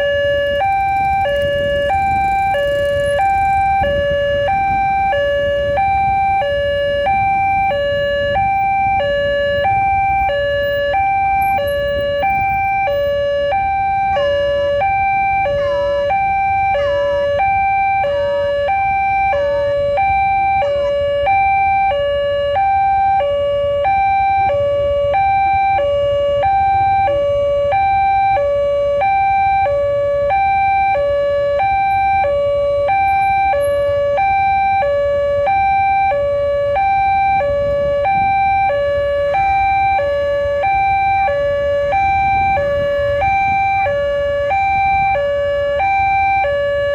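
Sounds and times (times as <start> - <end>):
level crossing alarm: 0.0 - 46.9.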